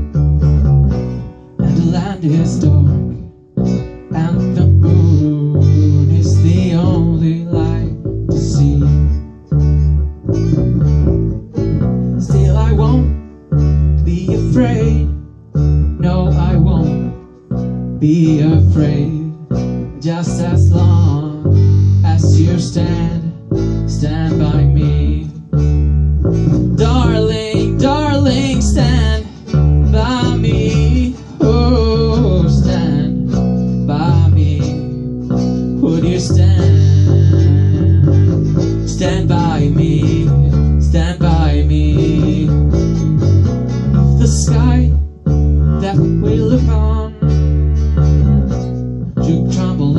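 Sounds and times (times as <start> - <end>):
acoustic guitar strumming: 0.0 - 49.9
person singing: 1.6 - 3.4, 4.0 - 9.2, 11.4 - 15.2, 15.8 - 17.2, 18.0 - 25.6, 26.6 - 43.2, 43.9 - 49.9.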